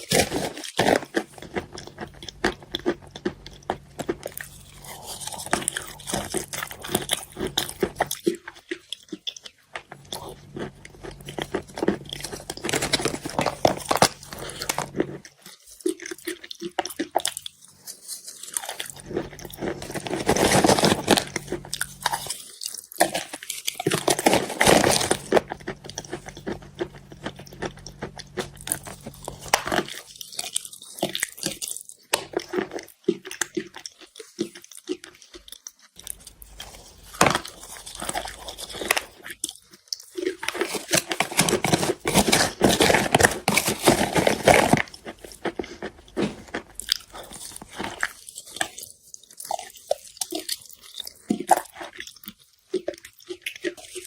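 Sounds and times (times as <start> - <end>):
chalk being chewed: 0.0 - 54.0.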